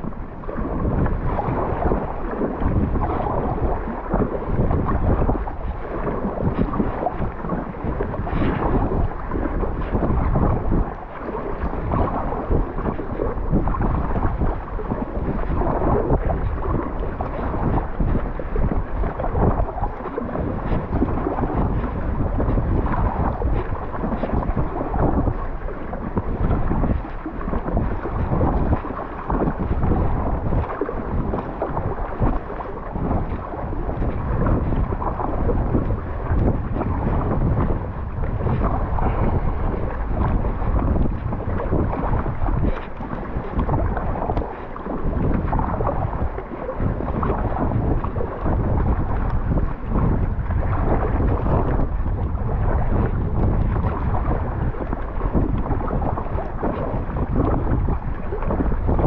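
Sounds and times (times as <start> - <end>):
water splashing against kayak: 0.0 - 59.0
wind blowing across microphone: 0.0 - 59.0.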